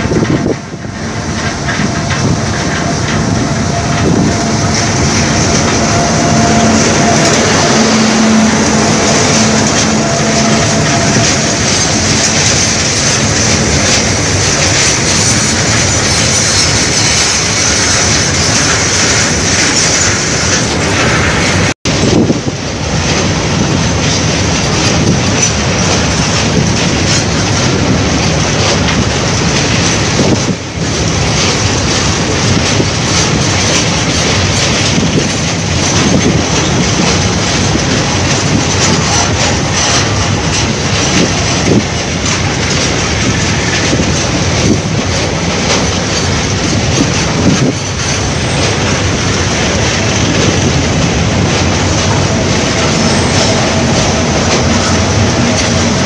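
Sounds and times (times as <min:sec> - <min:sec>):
goods train rattling on bridge: 0:00.0 - 0:56.0.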